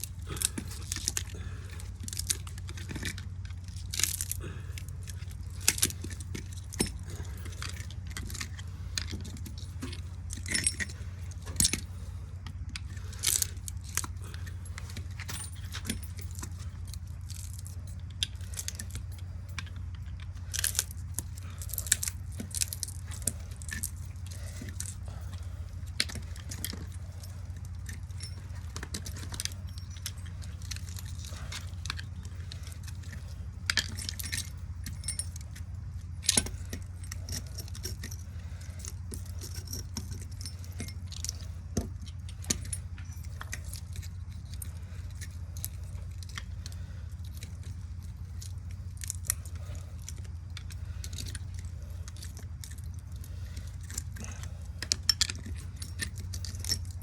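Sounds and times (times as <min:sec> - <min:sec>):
metallic wire clinks and crackles: 0:00.0 - 0:57.0
steady low hum: 0:00.0 - 0:57.0.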